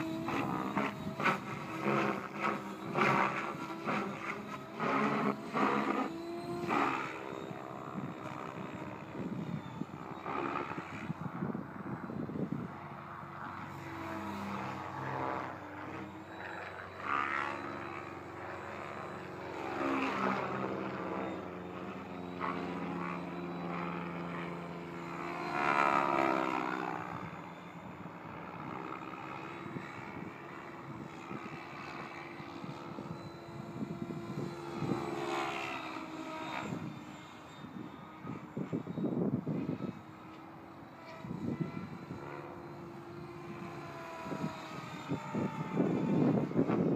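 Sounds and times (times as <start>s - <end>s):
rc helicopter rotor and motor: 0.0s - 46.9s.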